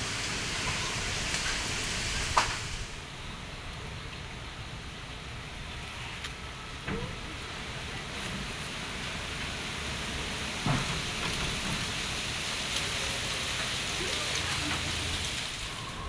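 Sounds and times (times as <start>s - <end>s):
rain and wind storm: 0.0s - 5.8s, 6.4s - 16.0s.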